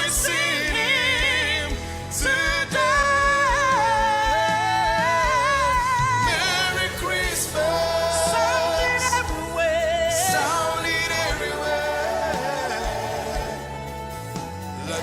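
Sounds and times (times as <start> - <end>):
band accompaniment: 0.0 - 15.0
gospel singers: 0.0 - 15.0.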